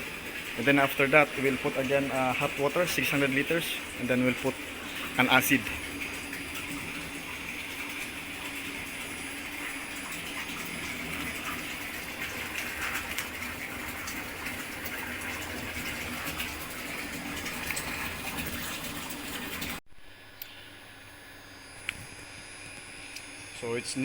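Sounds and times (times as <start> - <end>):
water gushing into tub: 0.0 - 19.8.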